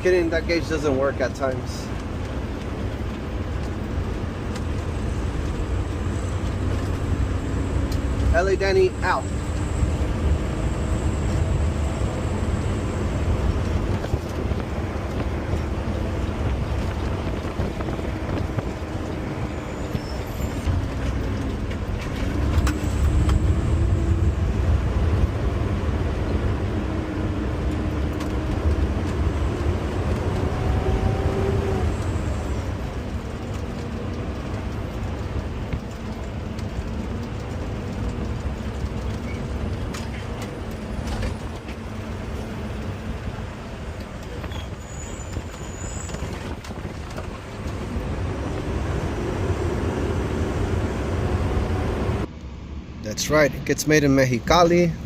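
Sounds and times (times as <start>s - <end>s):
garbage truck engine rumbling: 0.0s - 53.7s.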